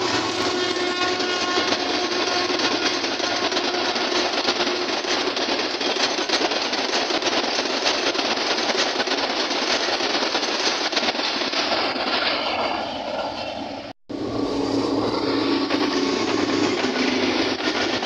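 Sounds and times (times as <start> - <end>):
train wheels clattering on rails: 0.0 - 13.7, 14.8 - 18.0.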